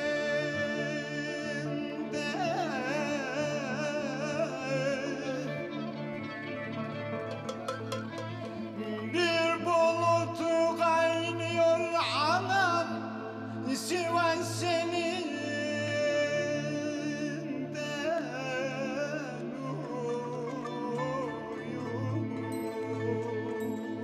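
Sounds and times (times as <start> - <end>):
man singing folk song: 0.0 - 5.8, 8.8 - 22.2.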